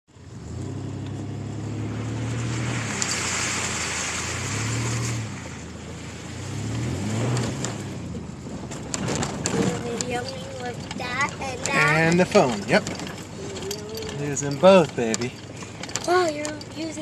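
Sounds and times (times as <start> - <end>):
car engine running: 0.1 - 17.0.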